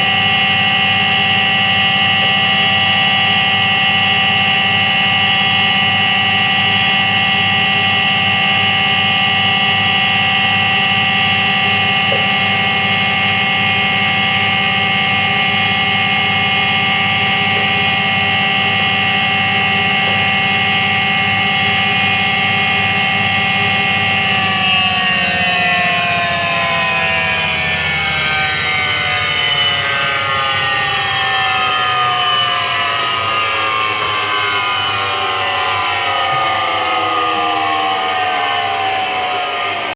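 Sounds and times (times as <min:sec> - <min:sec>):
washing machine drum spinning: 0:00.0 - 0:38.3.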